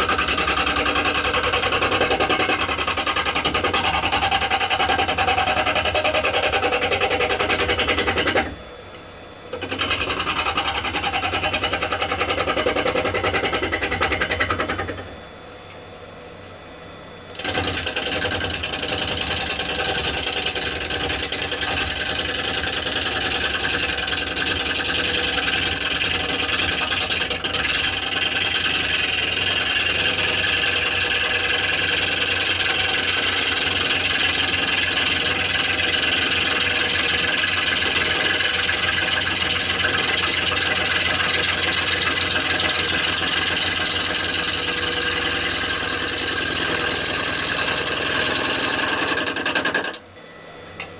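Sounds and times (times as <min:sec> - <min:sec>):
gouge cutting spinning wood: 0:00.0 - 0:08.6, 0:09.5 - 0:15.1, 0:17.3 - 0:50.0
wood lathe running: 0:00.0 - 0:08.6, 0:09.5 - 0:15.1, 0:17.3 - 0:50.0.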